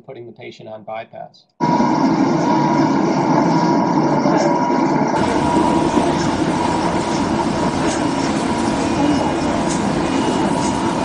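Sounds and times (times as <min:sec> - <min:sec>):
constant hum: 0:01.4 - 0:11.0.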